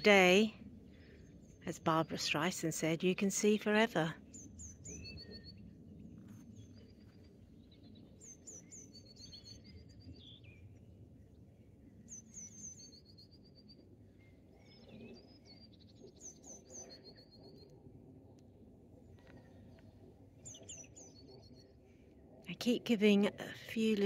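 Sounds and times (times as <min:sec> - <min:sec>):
faint low outdoor hum: 0:00.0 - 0:24.0.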